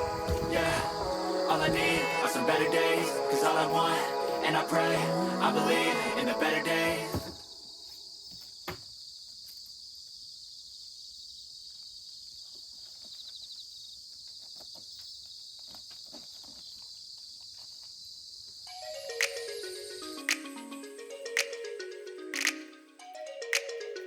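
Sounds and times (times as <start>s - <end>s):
insects chirring: 0.0s - 22.8s.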